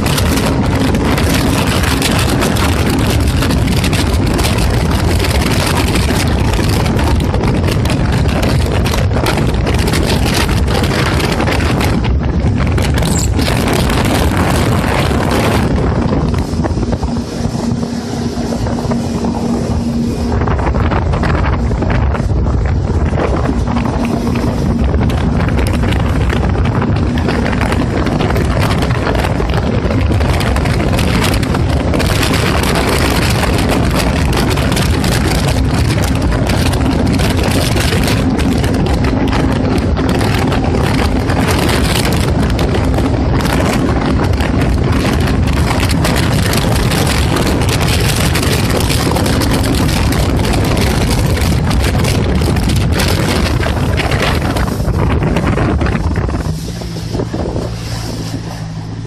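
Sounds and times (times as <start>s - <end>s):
jet ski engine drone: 0.0s - 59.0s
water splashing: 0.0s - 59.0s
wind rushing on microphone: 0.0s - 59.0s.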